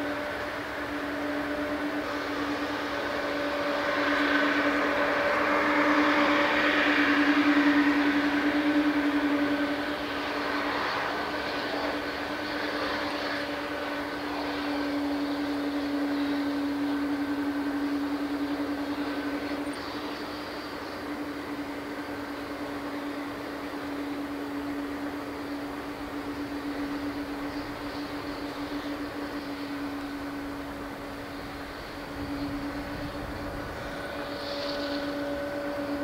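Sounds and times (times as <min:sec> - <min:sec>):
jet engines running at low power: 0:00.0 - 0:36.0.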